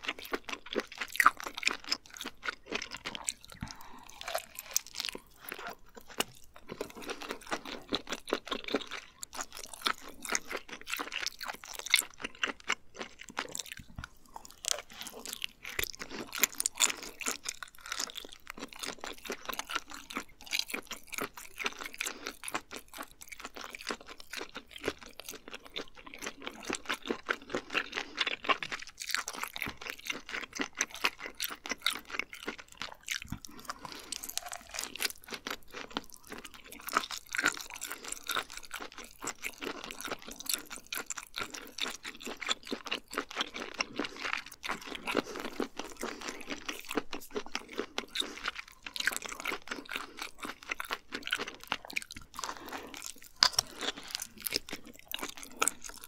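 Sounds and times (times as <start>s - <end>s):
chewing with crunching: 0.0s - 56.0s.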